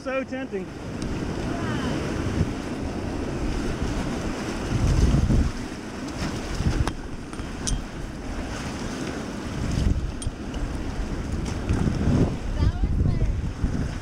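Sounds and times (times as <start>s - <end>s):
whitewater rushing and splashing: 0.0s - 14.0s
wind buffeting microphone: 0.6s - 14.0s.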